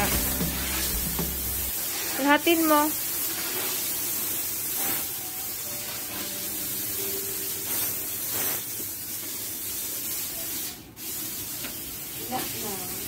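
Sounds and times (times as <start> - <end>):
sprayer hissing: 0.0 - 11.2.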